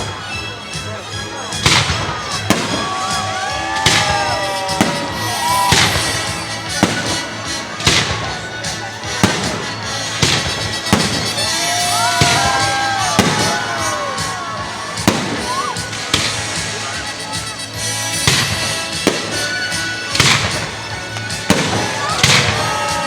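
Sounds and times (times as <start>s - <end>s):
background music: 0.0s - 23.0s
fireworks bangs: 0.0s - 23.0s.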